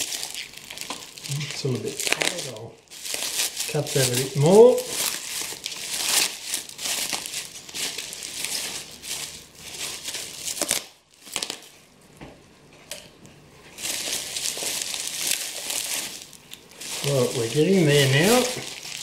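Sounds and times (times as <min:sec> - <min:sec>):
bubble wrap and plastic bag crinkling: 0:00.0 - 0:12.0, 0:13.6 - 0:19.0.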